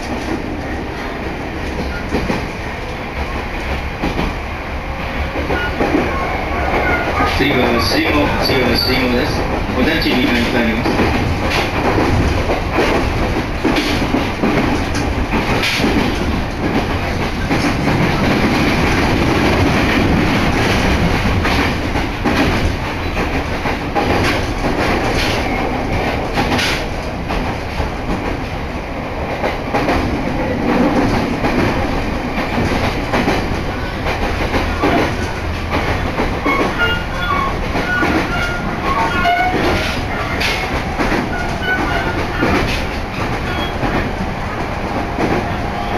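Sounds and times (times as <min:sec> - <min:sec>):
train carriage running noise: 0:00.0 - 0:45.9
wheels clacking over rail joints: 0:05.3 - 0:28.6, 0:29.3 - 0:45.9.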